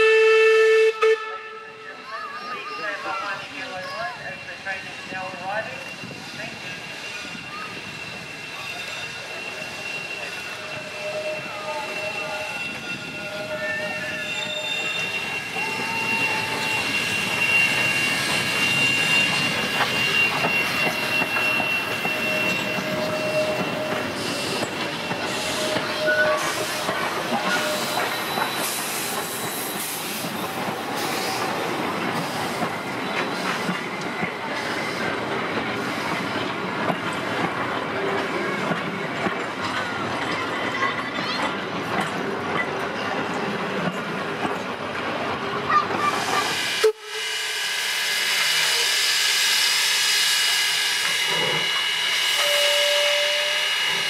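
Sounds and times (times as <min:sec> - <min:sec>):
steam train rolling by: 0:00.0 - 0:54.0
wheel flanges squealing: 0:02.4 - 0:54.0.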